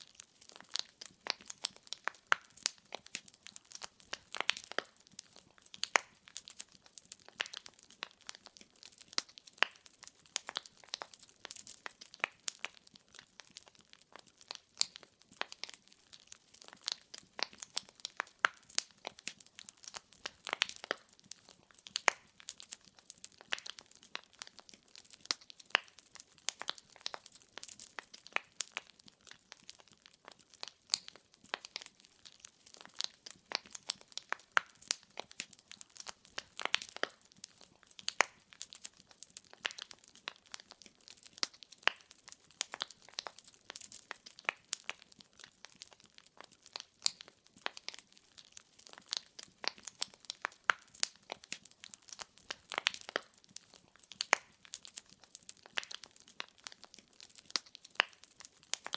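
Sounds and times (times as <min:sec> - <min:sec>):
firewood crackling and popping: 0:00.0 - 0:58.9.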